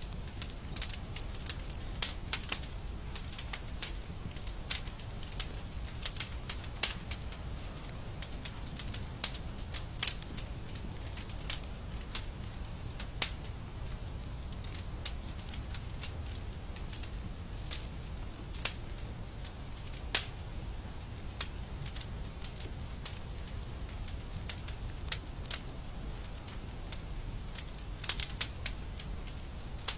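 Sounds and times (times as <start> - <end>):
low rumble of flame: 0.0 - 29.9
wood fire crackling: 0.0 - 29.9.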